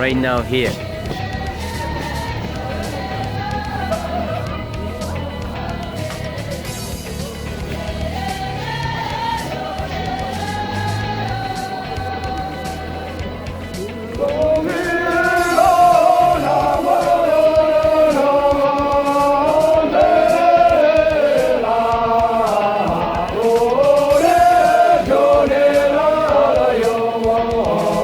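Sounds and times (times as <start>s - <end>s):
group singing: 0.0s - 28.0s.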